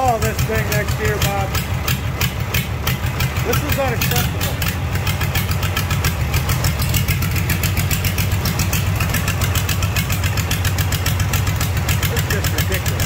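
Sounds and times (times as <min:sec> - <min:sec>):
tractor diesel engine clatter: 0:00.0 - 0:13.0.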